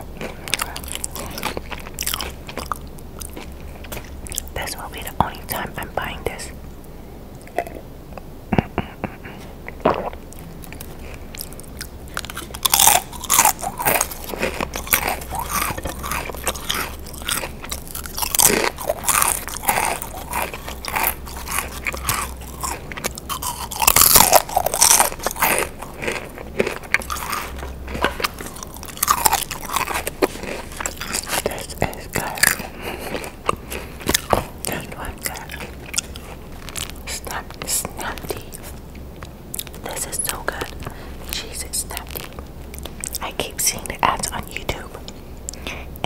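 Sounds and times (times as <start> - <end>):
crunching and chewing crisps: 0.0 - 6.5, 9.8 - 46.0.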